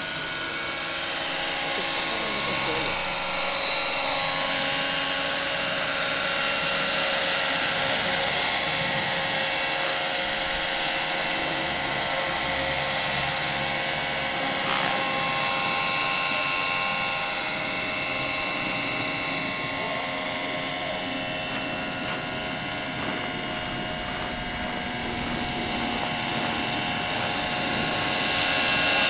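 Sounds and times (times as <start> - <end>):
model helicopter whine: 0.0 - 29.0.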